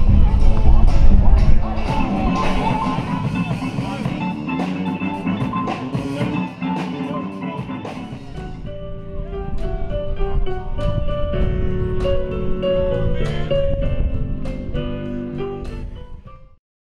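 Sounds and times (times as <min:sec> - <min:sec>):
held guitar notes: 0:00.0 - 0:15.8
band music with guitar and drums: 0:00.0 - 0:15.9.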